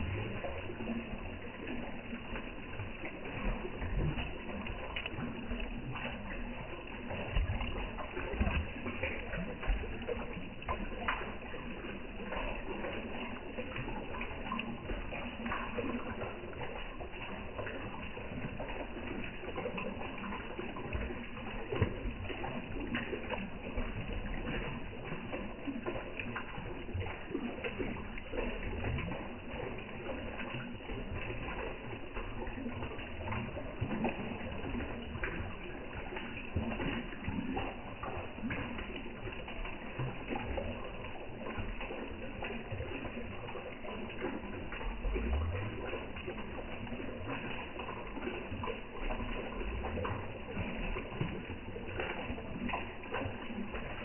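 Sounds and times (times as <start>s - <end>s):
fish slurping at water surface: 0.0s - 54.0s
small water splashes: 0.0s - 54.0s.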